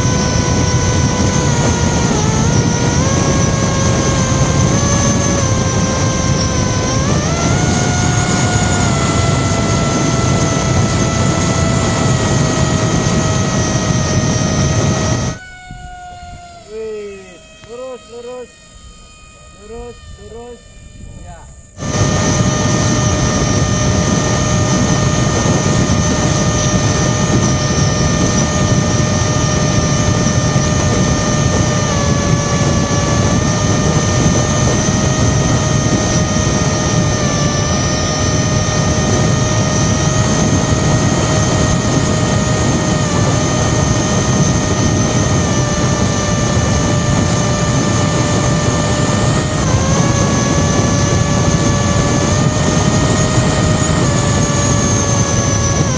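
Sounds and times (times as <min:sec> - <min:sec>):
propeller whine: 0:00.0 - 0:55.9.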